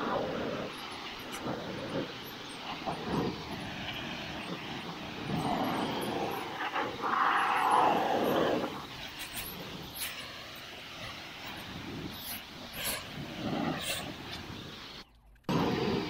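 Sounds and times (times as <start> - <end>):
pressure washer spraying: 0.0 - 16.0.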